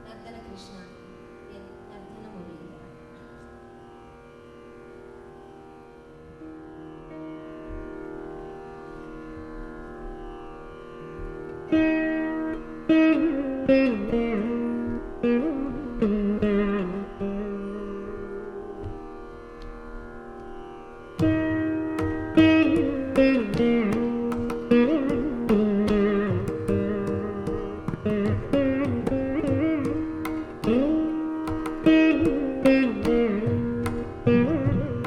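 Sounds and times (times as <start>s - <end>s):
veena playing: 0.0s - 35.0s.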